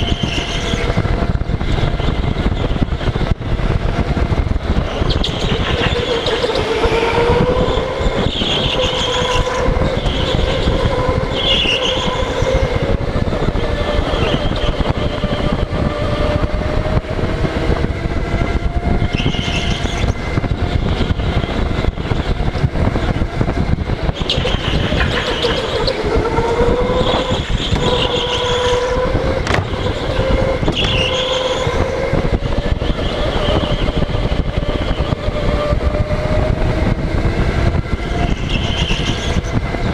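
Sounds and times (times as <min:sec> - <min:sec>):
go-kart motor whine: 0:00.0 - 0:39.9
wind and vibration rumble: 0:00.0 - 0:39.9.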